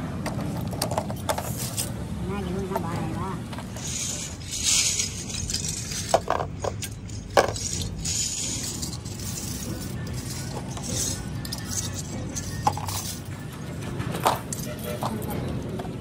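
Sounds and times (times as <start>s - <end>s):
metal parts clinking: 0.2s - 2.0s, 3.5s - 15.4s.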